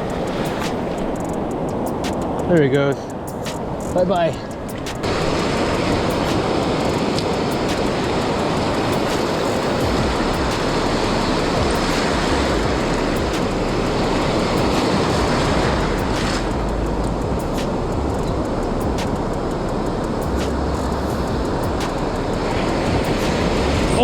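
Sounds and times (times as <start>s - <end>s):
surf rushing on a beach: 0.0s - 24.0s
wind rumbling on microphone: 0.0s - 24.0s.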